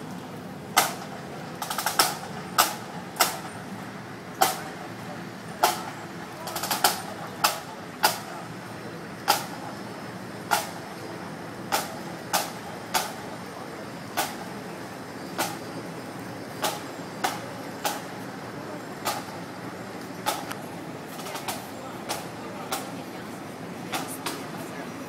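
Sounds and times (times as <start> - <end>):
murmur of onlookers: 0.0 - 25.0.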